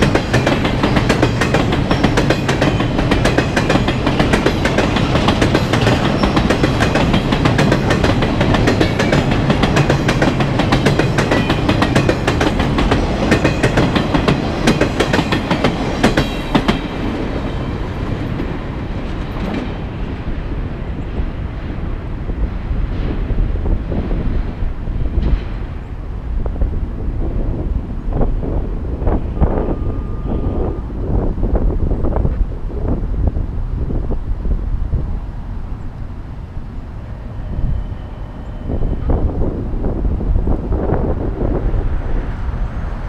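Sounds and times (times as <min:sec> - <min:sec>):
freight train rumbling past: 0:00.0 - 0:43.0.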